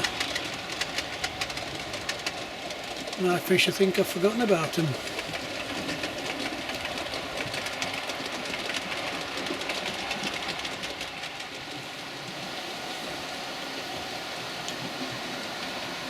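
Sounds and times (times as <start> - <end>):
wheels clicking over rail joints: 0.0 - 16.0.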